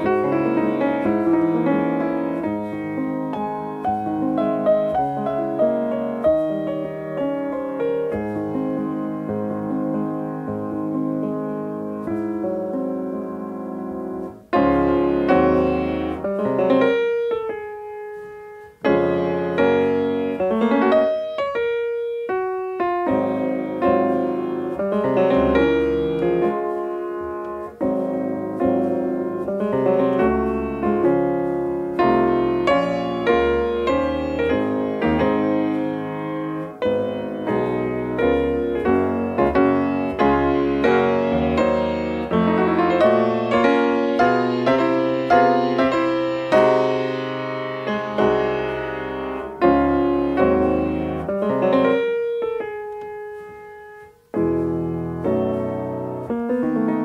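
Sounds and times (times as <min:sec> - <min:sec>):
background piano music: 0:00.0 - 0:57.0.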